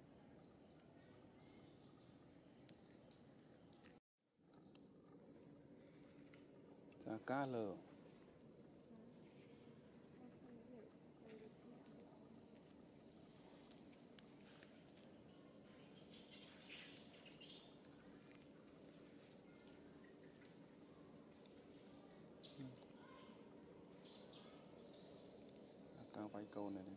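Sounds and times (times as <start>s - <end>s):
high-pitched insect trill: 0.0s - 26.9s.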